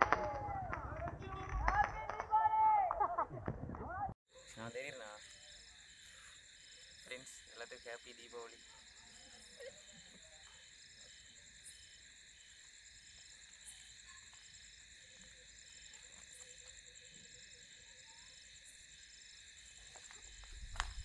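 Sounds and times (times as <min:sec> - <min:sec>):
crickets chirping: 0:00.0 - 0:02.9, 0:04.3 - 0:21.0.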